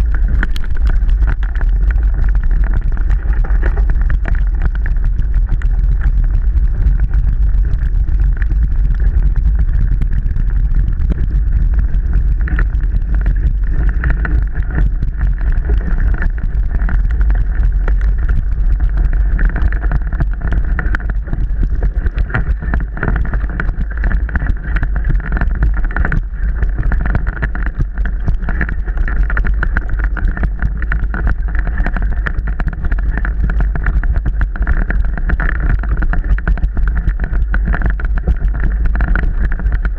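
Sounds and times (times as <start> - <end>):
low rumble of wind and terrain: 0.0 - 39.9.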